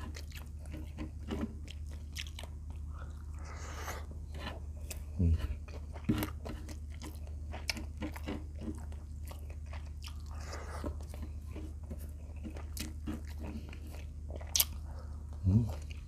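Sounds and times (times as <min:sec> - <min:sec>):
person chewing: 0:00.0 - 0:16.0
steady low hum: 0:00.0 - 0:16.0.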